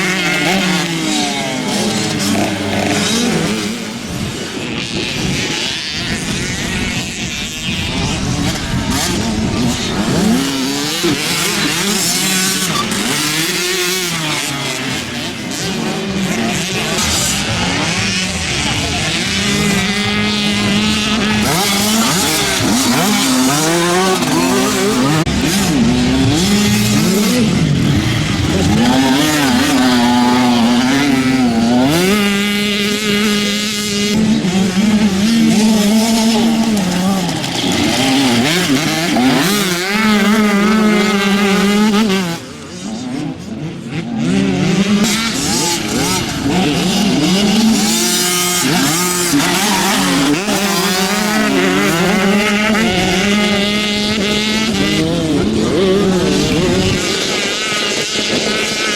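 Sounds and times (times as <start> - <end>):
motocross bikes revving: 0.0 - 58.9.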